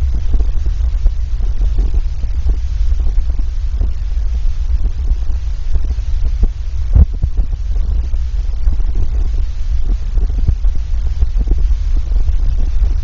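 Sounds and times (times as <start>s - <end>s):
muffled underwater water rumble: 0.0s - 13.0s.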